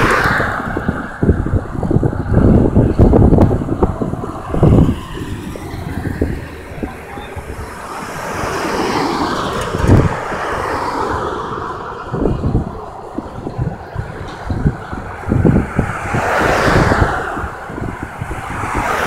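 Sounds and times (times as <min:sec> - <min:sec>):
road traffic: 0:00.0 - 0:19.0
wind buffeting microphone: 0:00.0 - 0:19.0.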